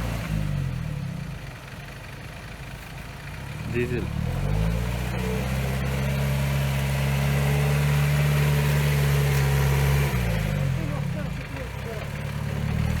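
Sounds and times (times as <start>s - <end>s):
off-road vehicle engine revving: 0.0s - 1.6s, 3.3s - 13.0s.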